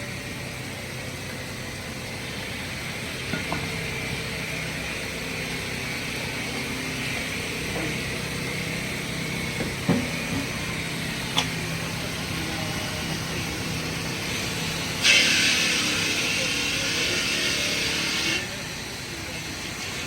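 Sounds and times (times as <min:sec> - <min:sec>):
heavy machinery humming: 0:00.0 - 0:20.0.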